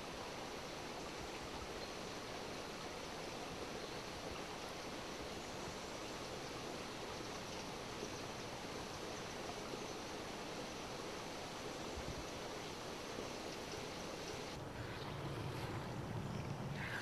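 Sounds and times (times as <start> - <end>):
small stream rushing: 0.0 - 17.0.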